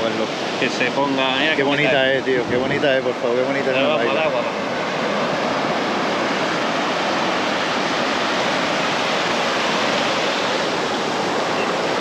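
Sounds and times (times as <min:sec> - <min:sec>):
surf washing on shore: 0:00.0 - 0:12.0.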